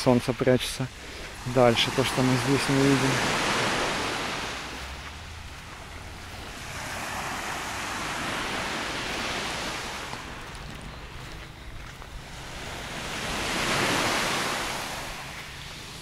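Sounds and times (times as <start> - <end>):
waves washing on sandy beach: 0.0 - 16.0.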